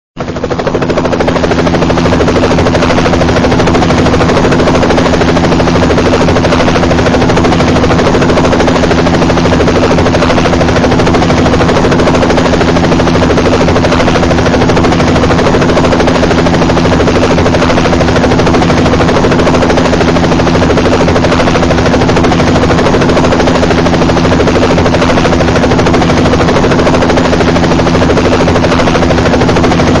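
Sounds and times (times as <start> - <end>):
helicopter engine tone: 0.2 - 30.0
helicopter rotor chopping: 0.2 - 30.0.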